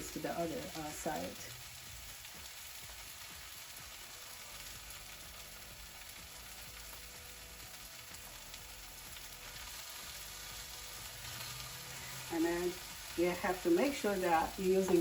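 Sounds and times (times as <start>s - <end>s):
egg frying in oil: 0.0s - 15.0s.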